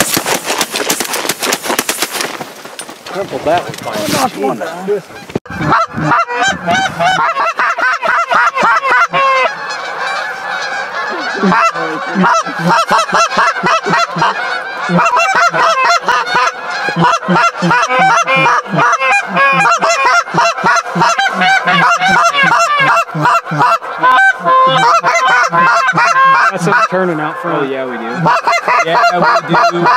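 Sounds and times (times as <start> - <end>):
geese honking: 3.1 - 29.9.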